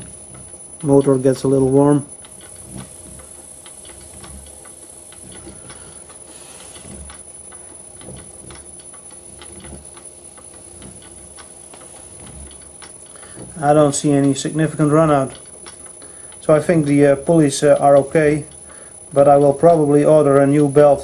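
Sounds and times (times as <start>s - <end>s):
lathe motor hum: 0.0s - 21.0s.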